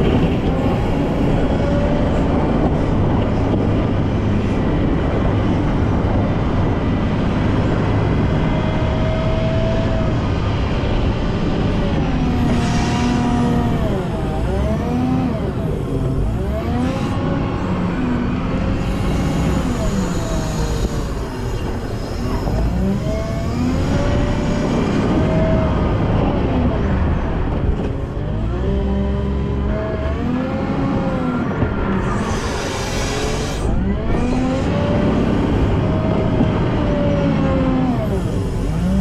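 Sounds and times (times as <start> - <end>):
diesel engine running: 0.0 - 39.0
machine whine rising and falling: 0.0 - 39.0.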